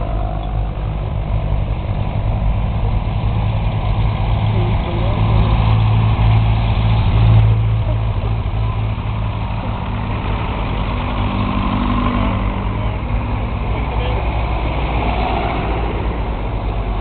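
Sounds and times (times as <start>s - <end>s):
tractor engines droning: 0.0s - 17.0s.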